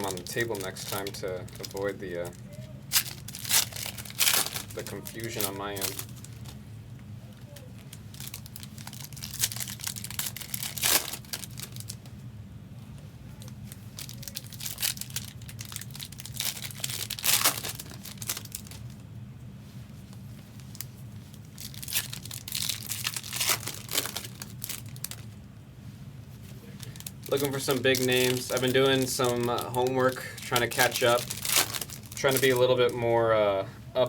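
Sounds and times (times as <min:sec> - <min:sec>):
card wrappers tearing and crinkling: 0:00.0 - 0:06.6, 0:07.5 - 0:12.0, 0:13.4 - 0:19.0, 0:20.6 - 0:25.3, 0:26.7 - 0:33.1
steady low hum: 0:00.0 - 0:34.0.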